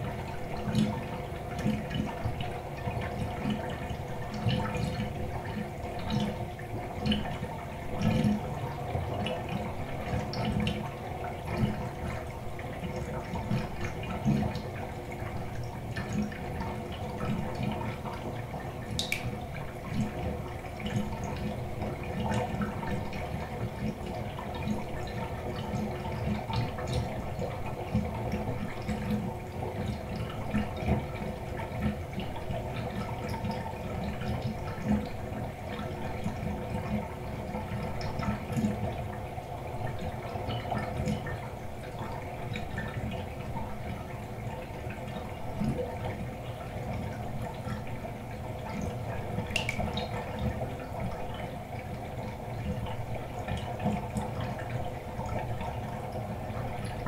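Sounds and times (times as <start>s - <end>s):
water gurgling down drain: 0.0s - 57.0s.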